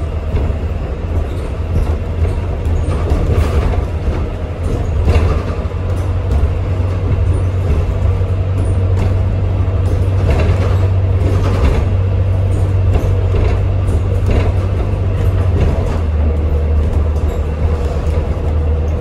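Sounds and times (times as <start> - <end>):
bus body rattling and knocking: 0.0 - 19.0
bus drivetrain hum: 0.0 - 19.0.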